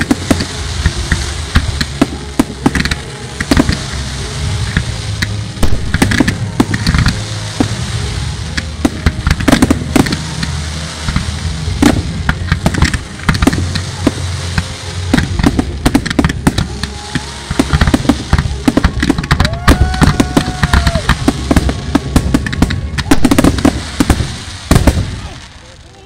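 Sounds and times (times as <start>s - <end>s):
continuous low rumble: 0.0s - 26.0s
fireworks bangs and crackles: 0.0s - 26.0s.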